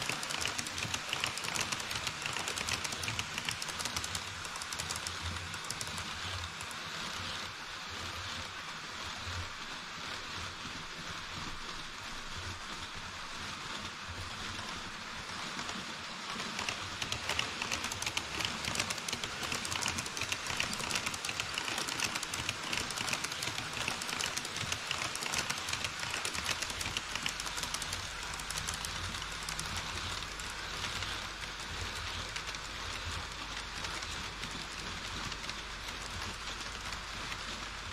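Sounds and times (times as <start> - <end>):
model train wheels clicking on track: 0.0 - 37.9.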